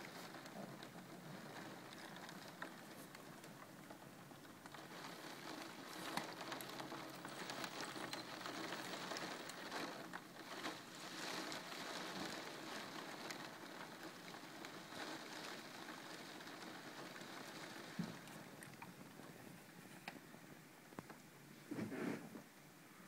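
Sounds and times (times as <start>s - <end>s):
rain downpour: 0.0s - 21.2s.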